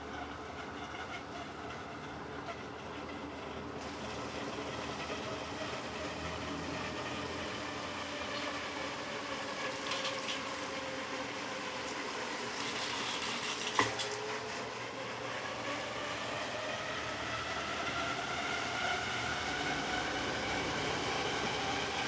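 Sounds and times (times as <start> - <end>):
motor hum: 0.0 - 22.0
washing machine water churning: 0.0 - 22.0.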